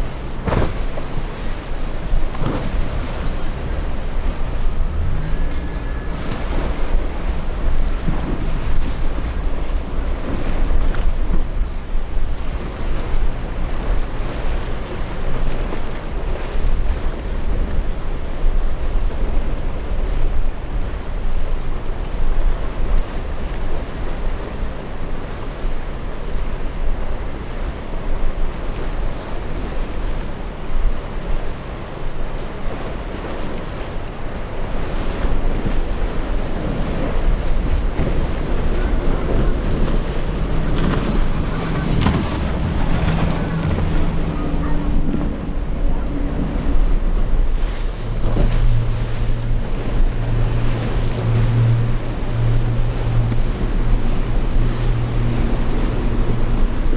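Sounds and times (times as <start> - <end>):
outboard engine running: 0.0 - 56.9
waves breaking: 0.0 - 56.9
wind buffeting microphone: 0.0 - 56.9.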